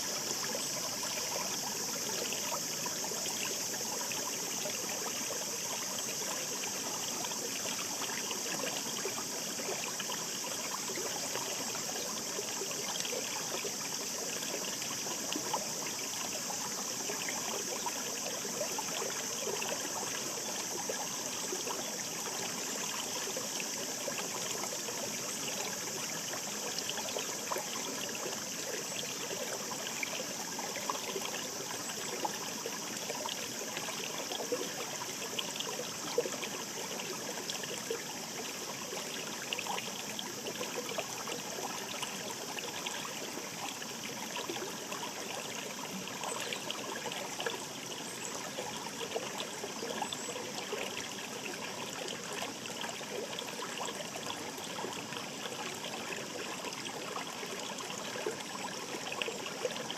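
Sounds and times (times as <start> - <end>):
brook water running: 0.0 - 59.9
small splashes and trickles: 0.0 - 59.9.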